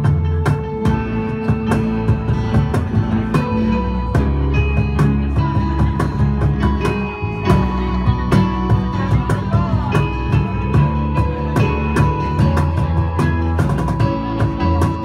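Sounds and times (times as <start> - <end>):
acoustic guitar: 0.0 - 15.0
keyboard: 0.0 - 15.0
second guitar: 0.0 - 15.0
steady drum beat: 0.0 - 15.0.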